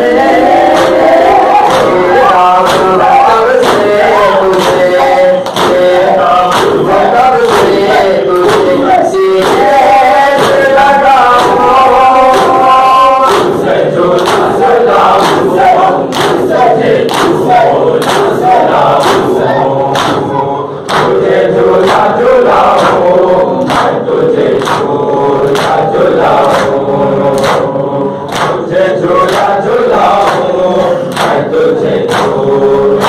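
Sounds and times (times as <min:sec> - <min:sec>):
crowd of men chanting: 0:00.0 - 0:33.0
hands slapping chests: 0:00.6 - 0:20.3, 0:20.9 - 0:24.0, 0:24.6 - 0:27.7, 0:28.3 - 0:31.4, 0:32.1 - 0:32.4.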